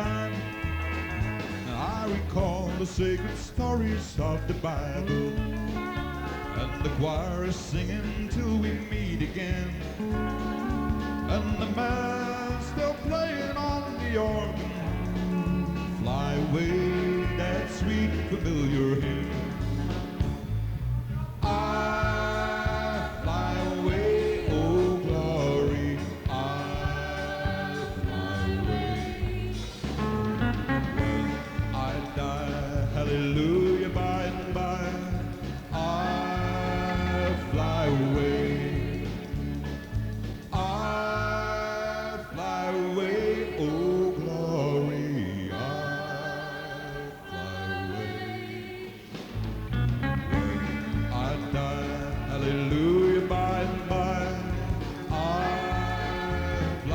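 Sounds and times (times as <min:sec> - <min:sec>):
guitar melody with sliding notes: 0:00.0 - 0:42.2, 0:49.0 - 0:56.9
drums and bass beat: 0:00.0 - 0:43.9, 0:49.0 - 0:56.9.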